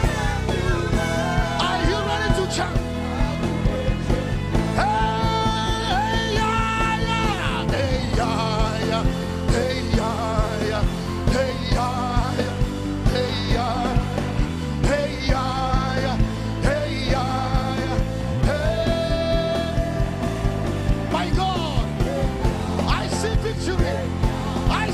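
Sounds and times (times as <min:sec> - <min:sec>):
bass line: 0:00.0 - 0:24.9
gospel band playing: 0:00.0 - 0:24.9
person singing: 0:00.0 - 0:24.9
steady drum beat: 0:00.0 - 0:24.9.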